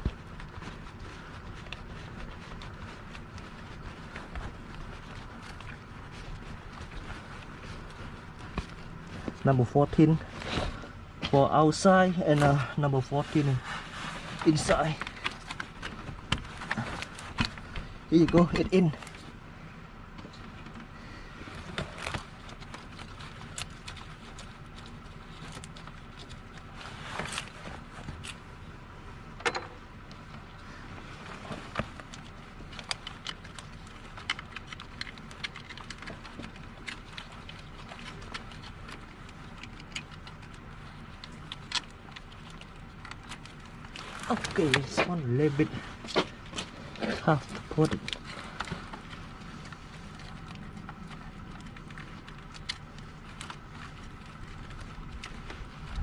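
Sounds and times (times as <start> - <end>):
low background hum: 0.0 - 56.0.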